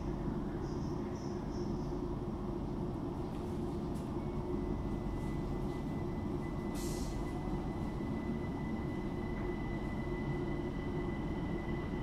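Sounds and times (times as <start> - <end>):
train motor low rumble: 0.0 - 12.0.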